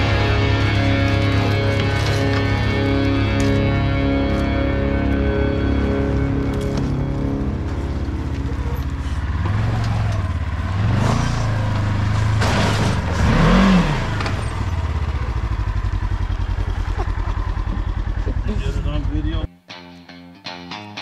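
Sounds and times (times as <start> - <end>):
engine revving: 0.0 - 19.5.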